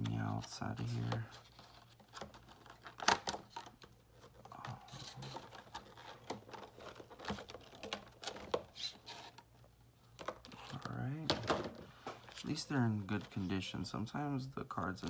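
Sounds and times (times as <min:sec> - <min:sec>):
cardboard packaging rustling: 0:00.0 - 0:15.0.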